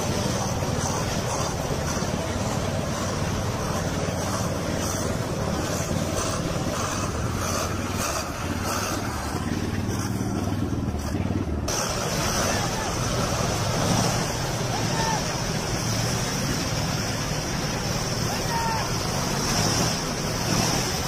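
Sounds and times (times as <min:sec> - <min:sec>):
rushing noise: 0:00.0 - 0:21.0
vehicle engine running: 0:00.0 - 0:21.0.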